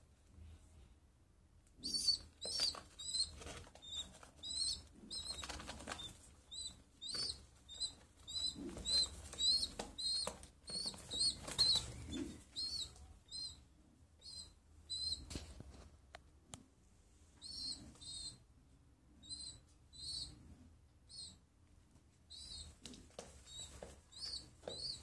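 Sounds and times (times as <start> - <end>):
young pigeon peeping: 1.8 - 15.8, 17.4 - 18.5, 19.1 - 21.5, 22.2 - 25.0.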